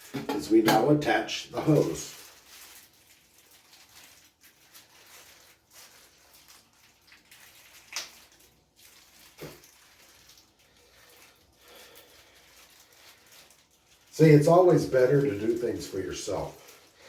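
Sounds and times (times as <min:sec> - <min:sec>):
shower hose rustling: 0:00.0 - 0:17.0.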